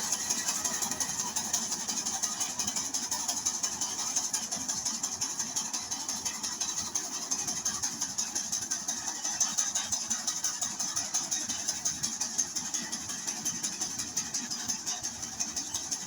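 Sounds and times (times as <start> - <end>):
combine harvester engine running: 0.0 - 16.0
fast mechanical clatter: 0.0 - 16.0.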